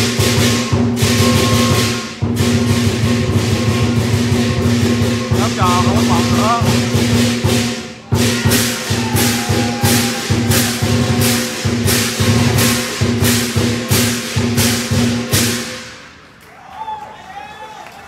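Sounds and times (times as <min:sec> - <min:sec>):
drum beats: 0:00.0 - 0:16.1
cymbals crashing: 0:00.0 - 0:16.3.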